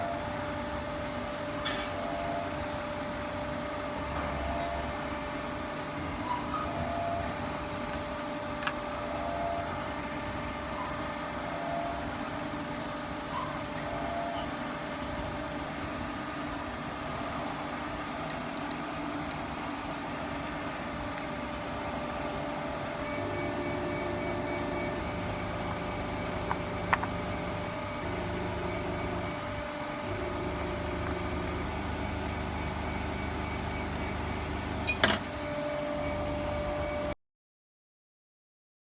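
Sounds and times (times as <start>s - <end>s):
milling machine humming: 0.0s - 37.1s.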